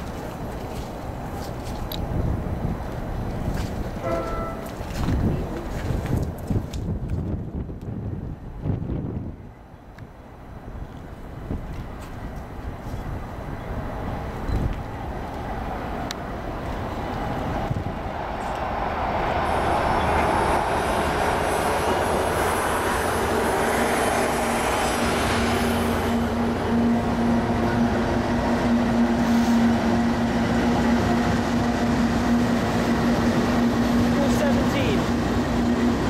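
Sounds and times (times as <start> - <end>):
diesel locomotive engine rumble: 0.0 - 36.0.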